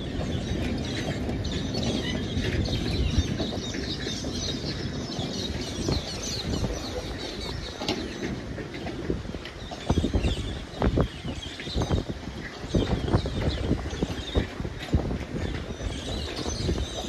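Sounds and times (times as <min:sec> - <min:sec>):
birds chirping: 0:00.0 - 0:17.0
rail bins rumbling and knocking: 0:00.0 - 0:17.0.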